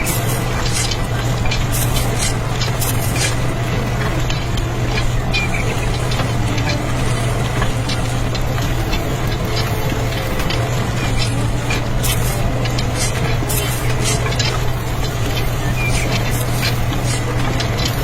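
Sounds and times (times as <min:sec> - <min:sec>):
light clicks and ticks: 0:00.0 - 0:18.0
small motor humming: 0:00.0 - 0:18.0.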